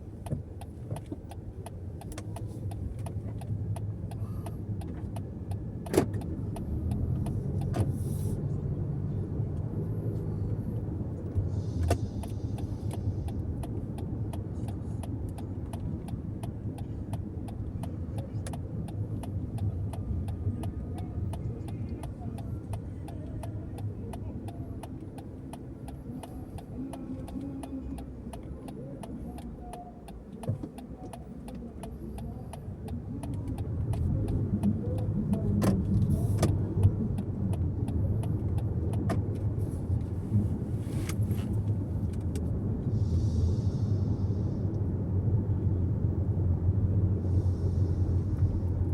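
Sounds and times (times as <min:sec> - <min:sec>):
road and engine rumble: 0:00.0 - 0:48.9.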